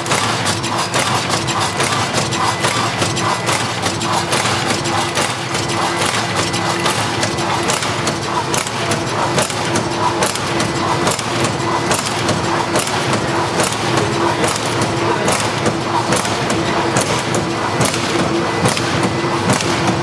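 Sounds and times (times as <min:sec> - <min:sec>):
packing machine clatter: 0:00.0 - 0:20.0
sharp machine clack: 0:00.0 - 0:20.0.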